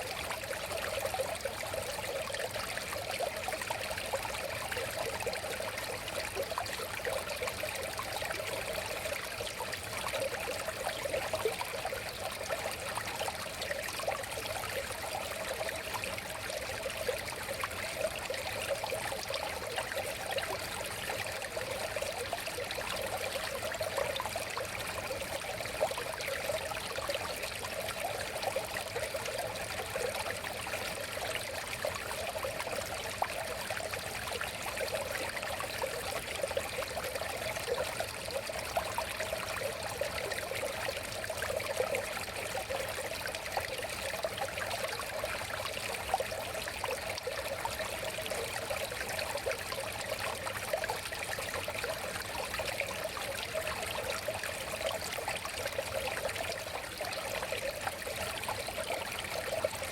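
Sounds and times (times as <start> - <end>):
river water flowing and bubbling: 0.0 - 59.9.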